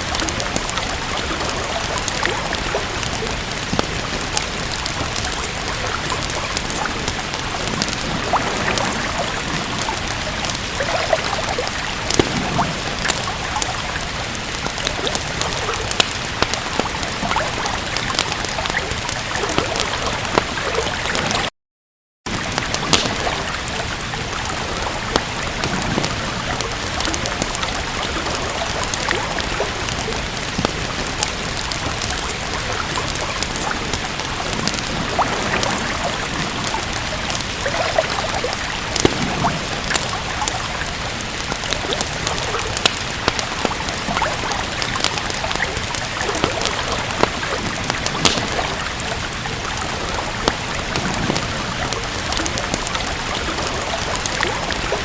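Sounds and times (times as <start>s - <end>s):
steady rain: 0.0s - 21.5s, 22.3s - 55.0s
wood fire crackling: 0.0s - 21.5s, 22.3s - 55.0s.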